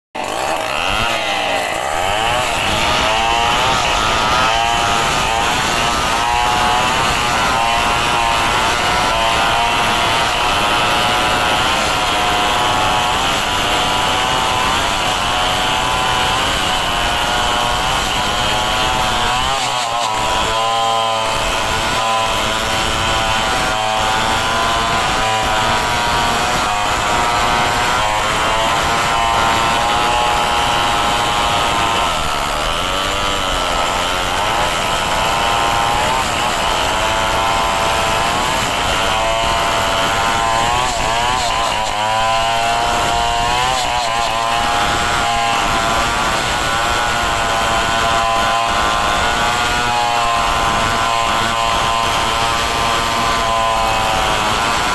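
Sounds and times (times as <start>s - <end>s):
chainsaws cutting wood: 0.2s - 54.9s.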